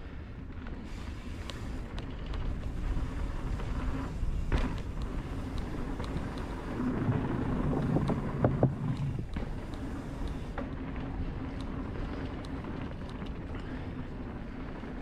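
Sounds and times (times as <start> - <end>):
bike rattling over bumps: 0.0 - 15.0
bike tyres rumbling on dirt: 0.0 - 15.0.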